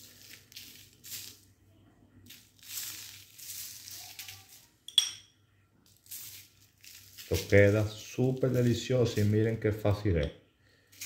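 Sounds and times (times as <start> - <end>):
sugar sprinkling hiss: 0.0 - 5.0, 5.8 - 10.0, 10.7 - 11.0.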